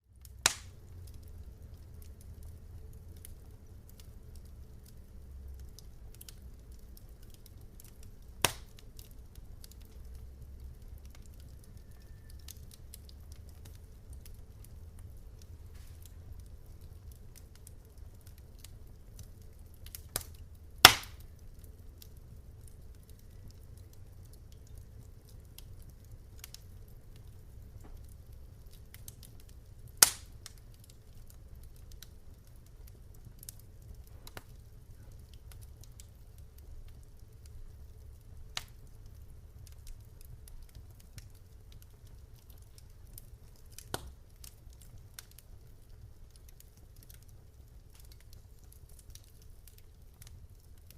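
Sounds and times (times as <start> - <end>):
low steady rumble: 0.0 - 50.9
wood fire crackling: 0.0 - 50.9.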